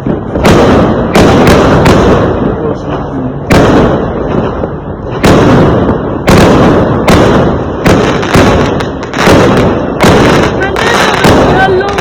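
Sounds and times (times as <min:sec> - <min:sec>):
fireworks bangs: 0:00.0 - 0:12.0
rumbling echo: 0:00.0 - 0:12.0.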